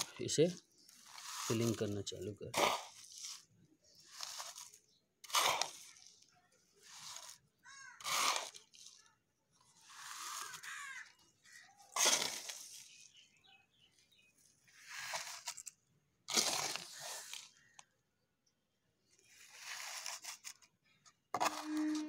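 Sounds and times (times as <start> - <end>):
soil poured into a pot: 0.0 - 13.3, 14.4 - 17.9, 19.1 - 22.0.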